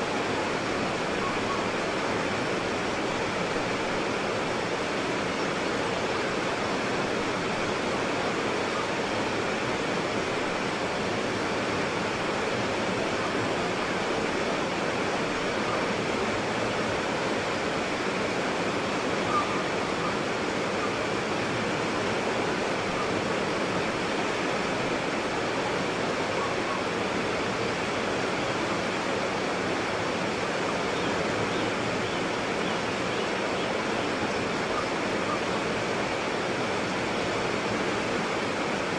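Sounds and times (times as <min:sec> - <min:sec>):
rapids rushing: 0:00.0 - 0:38.9.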